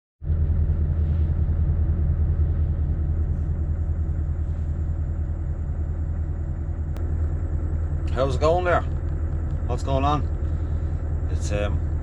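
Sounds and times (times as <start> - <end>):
truck engine rumbling: 0.2 - 12.0.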